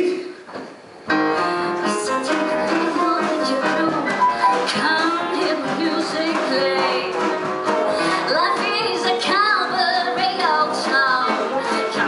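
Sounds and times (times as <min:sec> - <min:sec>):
band playing show tune: 0:01.1 - 0:12.0
woman singing with vibrato: 0:01.3 - 0:12.0.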